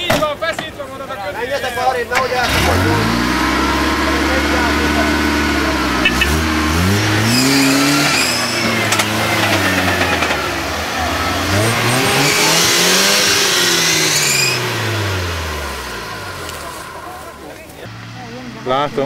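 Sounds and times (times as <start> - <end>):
engine revving hard: 2.2 - 19.0.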